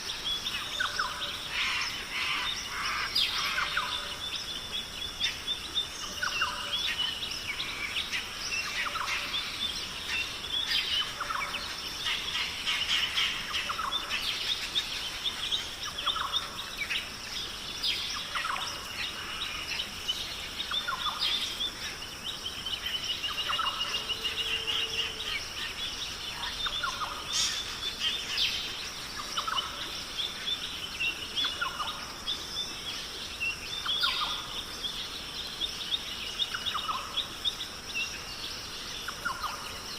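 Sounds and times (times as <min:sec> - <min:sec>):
birds chirping: 0:00.0 - 0:39.9
steady high hiss: 0:00.0 - 0:39.9.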